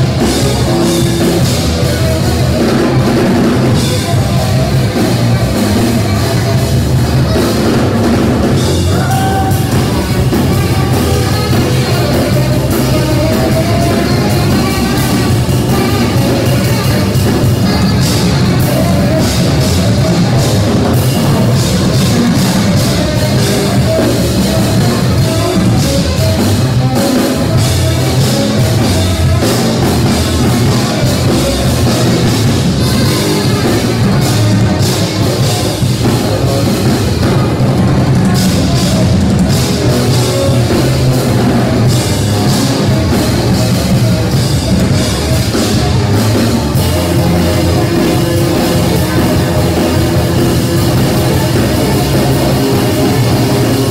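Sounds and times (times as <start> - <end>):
drum kit: 0.0 - 53.9
electric guitar: 0.0 - 53.9
tenor saxophone: 0.0 - 53.9.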